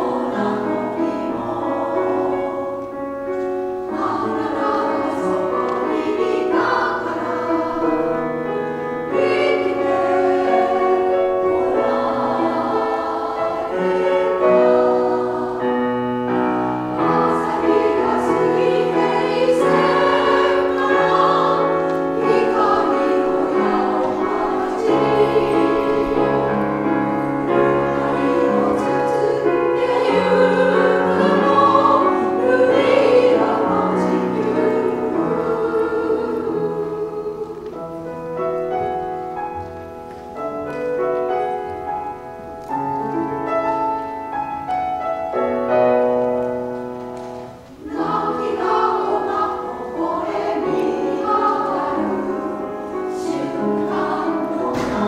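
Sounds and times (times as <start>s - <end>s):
women's choir singing: 0.0s - 42.3s, 45.6s - 55.0s
grand piano: 0.0s - 55.0s.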